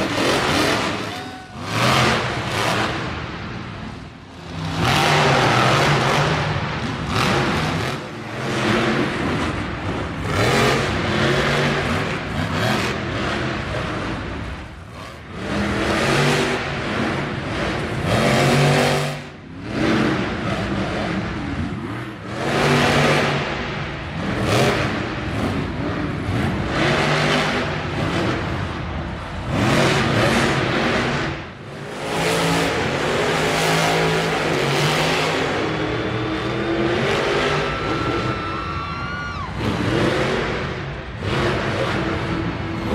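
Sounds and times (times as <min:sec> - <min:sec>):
truck engine revving: 0:00.0 - 0:38.8, 0:39.4 - 0:42.9.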